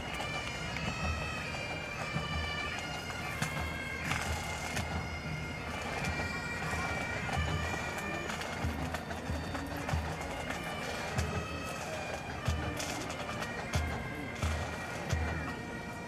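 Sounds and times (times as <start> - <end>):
bagpipes playing a tune: 0.0 - 16.0
drums beating: 0.9 - 15.5.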